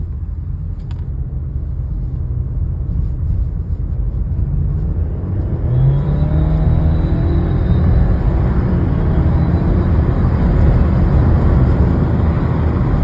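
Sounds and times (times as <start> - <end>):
car engine and exhaust rumbling: 0.0 - 13.0.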